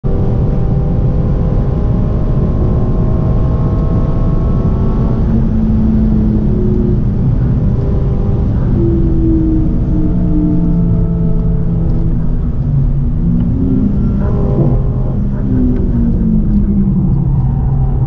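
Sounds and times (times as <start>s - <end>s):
car engine at full speed: 0.0s - 18.0s
road and wind noise: 0.0s - 18.0s.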